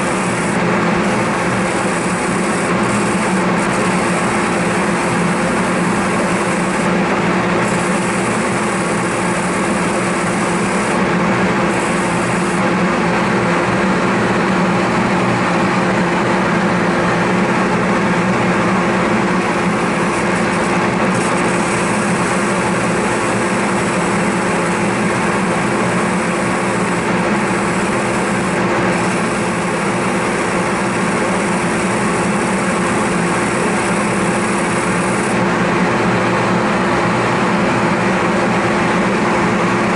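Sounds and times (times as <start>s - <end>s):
wheel motor humming: 0.0s - 35.4s
dust collector rushing: 0.0s - 38.1s.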